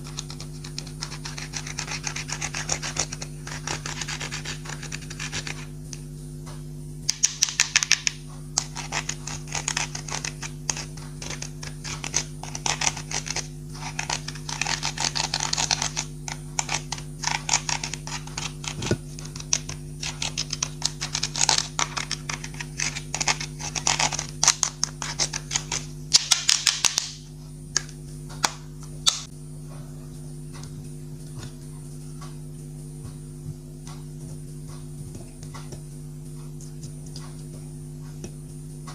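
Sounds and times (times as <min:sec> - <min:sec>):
low hum: 0:00.0 - 0:38.9.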